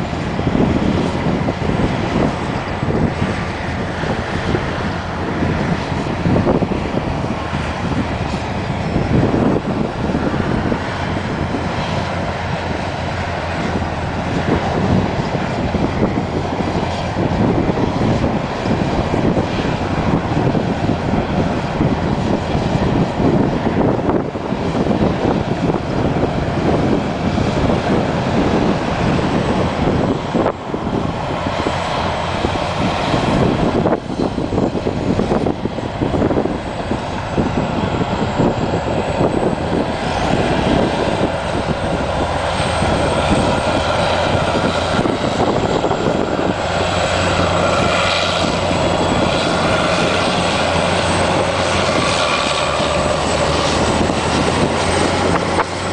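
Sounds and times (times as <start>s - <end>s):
heavy diesel engines under load: 0.0s - 55.9s.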